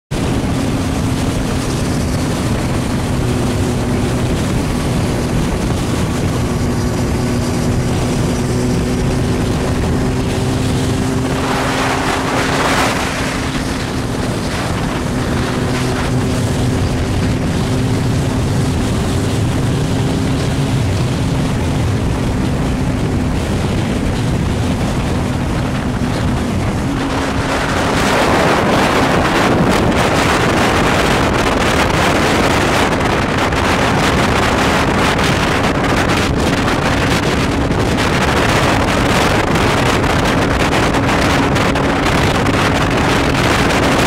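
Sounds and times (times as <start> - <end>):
road and wind noise: 0.0 - 44.0
motorcycle engine cruising: 0.1 - 44.0.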